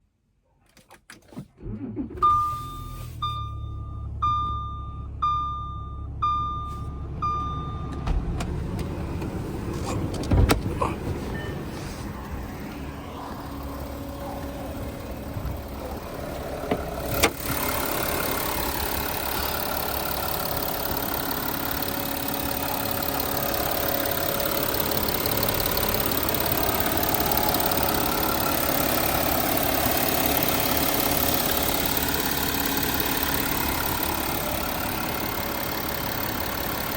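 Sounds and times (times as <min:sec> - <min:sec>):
car engine starting and idling: 0:00.6 - 0:36.9.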